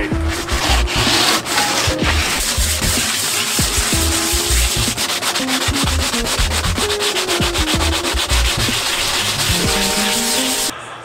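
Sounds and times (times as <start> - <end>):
hand sanding fiberglass: 0.0 - 10.7.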